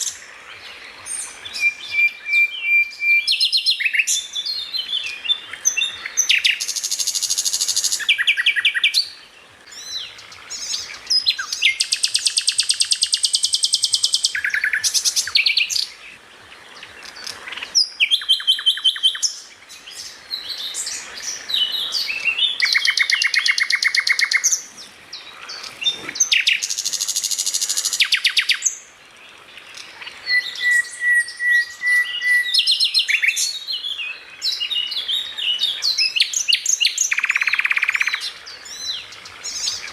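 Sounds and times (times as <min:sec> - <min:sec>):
songbird singing fast trills: 0:00.0 - 0:39.9.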